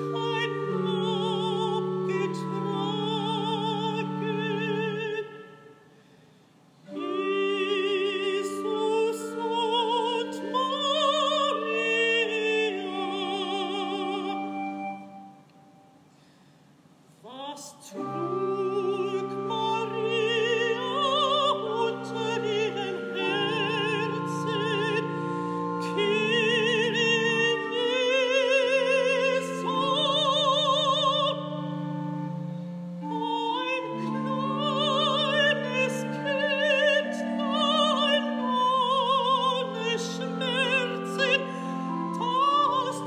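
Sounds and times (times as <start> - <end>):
organ chords: 0.0 - 5.7, 6.8 - 16.0, 17.9 - 43.0
soprano singing with vibrato: 0.0 - 5.9, 6.9 - 15.5, 17.2 - 32.2, 33.0 - 43.0.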